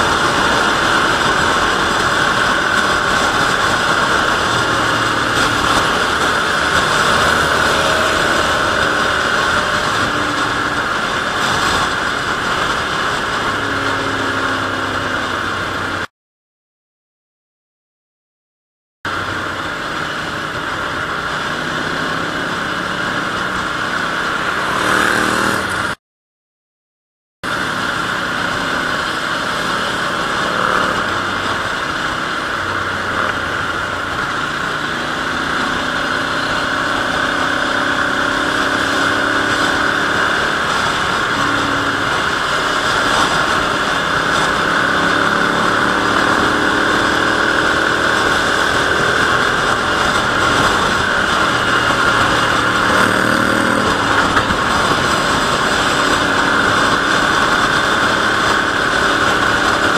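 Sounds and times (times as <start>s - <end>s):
motorcycle engine cruising: 0.0s - 16.1s, 19.1s - 26.0s, 27.4s - 59.9s
steady rushing noise: 0.0s - 16.1s, 19.1s - 26.0s, 27.4s - 59.9s.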